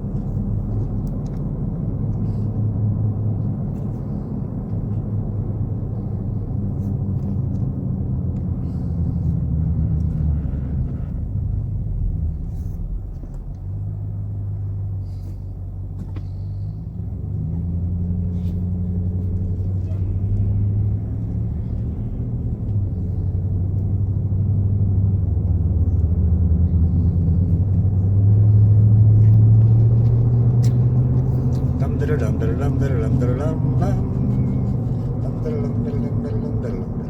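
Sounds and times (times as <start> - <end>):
car engine and tyre noise: 0.0 - 37.0.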